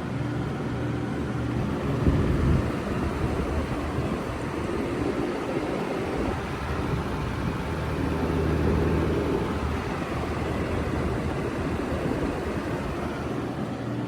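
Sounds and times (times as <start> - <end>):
fan air rushing: 0.0 - 14.0
low compressor hum: 0.0 - 14.0.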